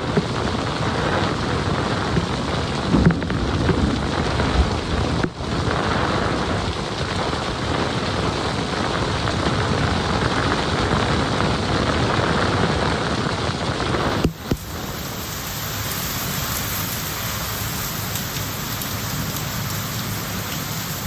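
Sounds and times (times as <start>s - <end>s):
thunder rumbling: 0.0s - 13.1s, 13.7s - 21.0s
heavy rain falling: 0.0s - 21.0s.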